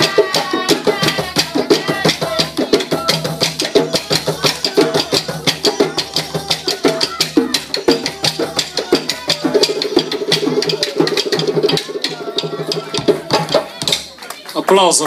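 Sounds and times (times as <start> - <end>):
hand drum: 0.0 - 14.1.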